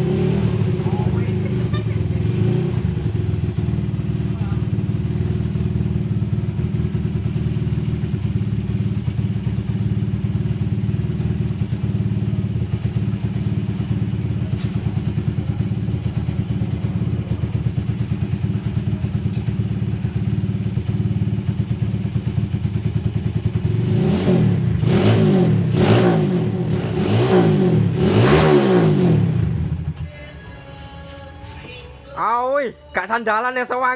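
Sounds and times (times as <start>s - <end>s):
motorcycle engine idling: 0.0s - 25.8s, 29.0s - 31.9s
motorcycle engine revving: 0.0s - 30.1s.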